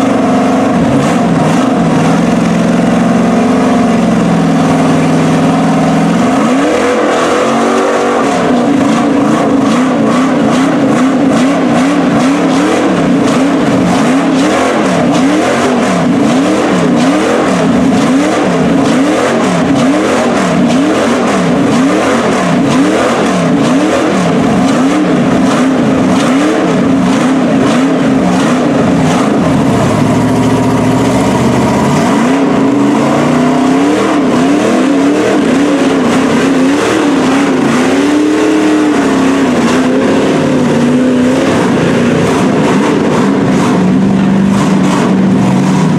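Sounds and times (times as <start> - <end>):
tires spinning in mud: 0.0 - 45.9
truck engine revving: 0.0 - 45.9.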